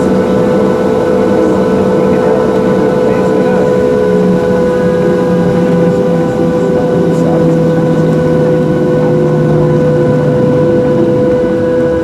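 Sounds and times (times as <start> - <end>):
jet engine drone in cabin: 0.0 - 12.0.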